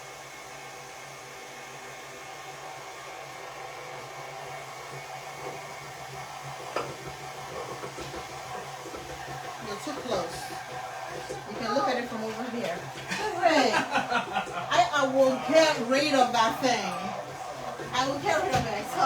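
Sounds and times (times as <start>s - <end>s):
stand mixer motor hum: 0.0s - 19.0s.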